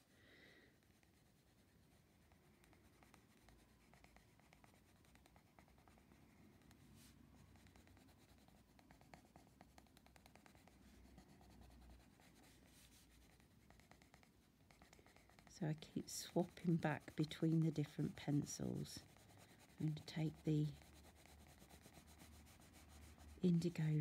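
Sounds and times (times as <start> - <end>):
pencil scratching on paper: 0.8 - 24.0.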